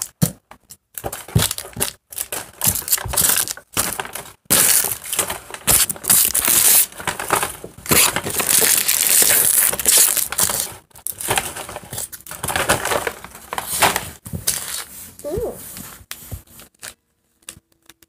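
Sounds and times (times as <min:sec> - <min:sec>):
loud close rustling and crinkling: 0:00.0 - 0:18.0.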